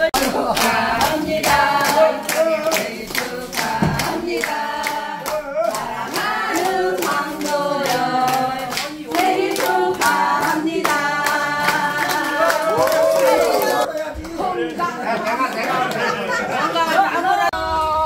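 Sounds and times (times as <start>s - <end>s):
people clapping in time: 0.0s - 16.4s
group singing: 0.0s - 18.0s.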